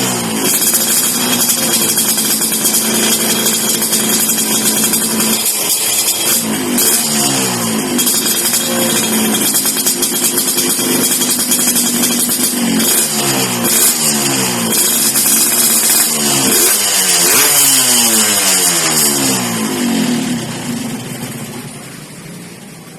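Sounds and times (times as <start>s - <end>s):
two-stroke motorcycle engine revving: 0.0s - 22.9s.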